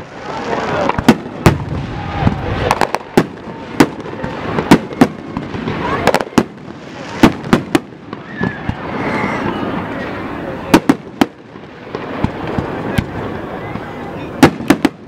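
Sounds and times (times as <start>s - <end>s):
firework crackle and rumble: 0.0s - 15.0s.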